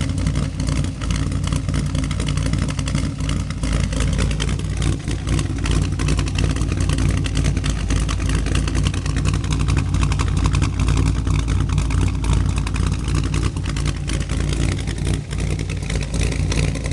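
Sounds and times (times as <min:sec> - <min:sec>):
car engine idling choppily: 0:00.0 - 0:16.9.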